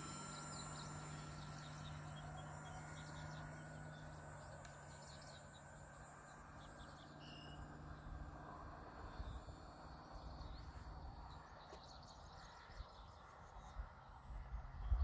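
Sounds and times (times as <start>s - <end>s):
birds chirping: 0.0s - 15.0s
distant model plane motors humming: 0.0s - 15.0s.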